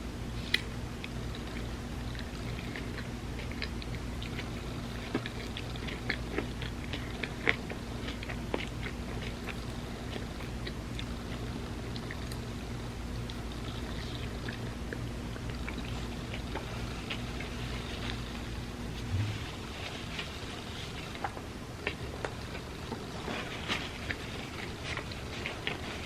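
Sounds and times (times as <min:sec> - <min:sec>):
chewing ice cream sandwich: 0:00.0 - 0:26.0
steady low hum: 0:00.0 - 0:26.0.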